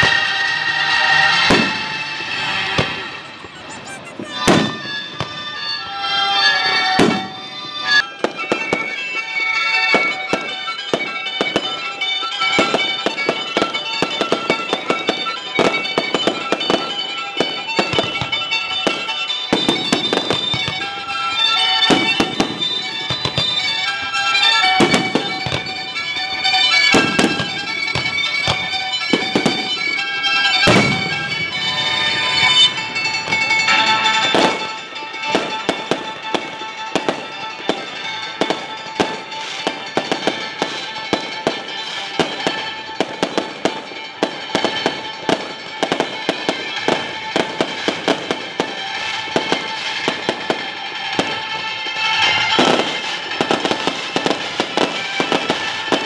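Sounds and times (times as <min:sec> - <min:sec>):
fireworks bangs and crackles: 0:00.0 - 0:56.0
music with long held notes: 0:04.7 - 0:56.0.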